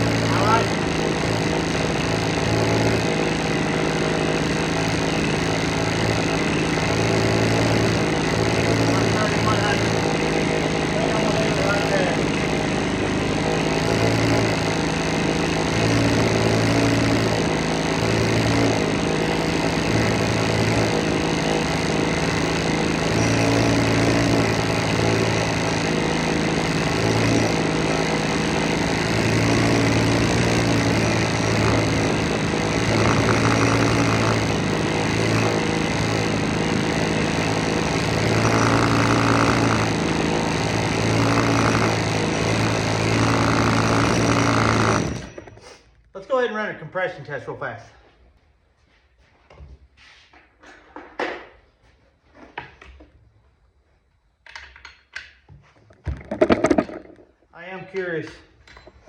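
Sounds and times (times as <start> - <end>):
chainsaw engine idling: 0.0 - 45.8, 56.2 - 58.2.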